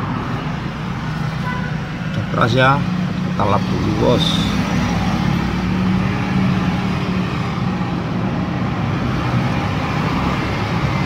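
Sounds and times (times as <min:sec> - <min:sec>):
background traffic noise: 0:00.0 - 0:11.0.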